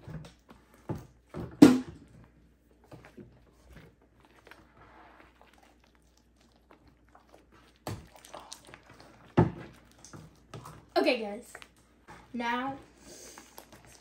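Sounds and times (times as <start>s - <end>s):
shaving cream slime squelching: 2.0s - 14.0s.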